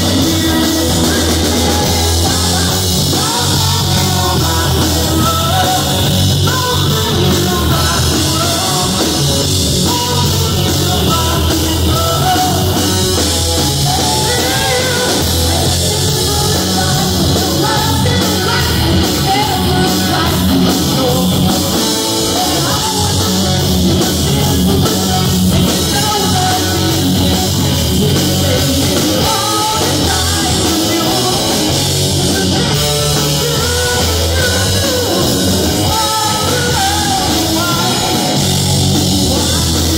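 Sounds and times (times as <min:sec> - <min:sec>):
male lead vocal: 0:00.0 - 0:39.9
rock band playing: 0:00.0 - 0:39.9.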